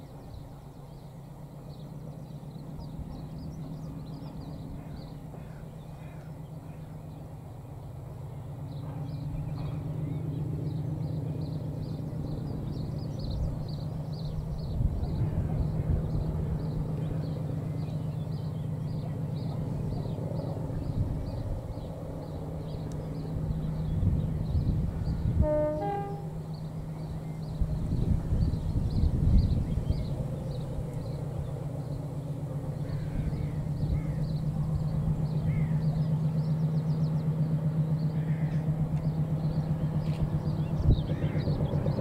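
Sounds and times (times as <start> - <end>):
distant diesel locomotive drone: 0.0 - 42.0.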